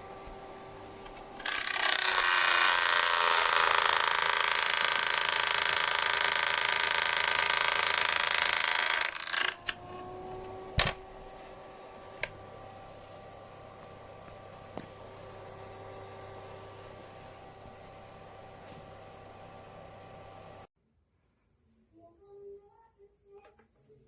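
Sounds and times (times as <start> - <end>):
fan heater running: 0.0 - 20.7.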